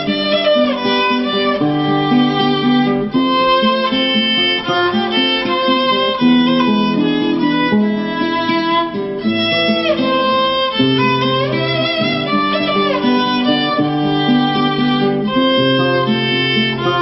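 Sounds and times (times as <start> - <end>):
guitar accompaniment: 0.0 - 17.0
violin melody: 0.0 - 17.0.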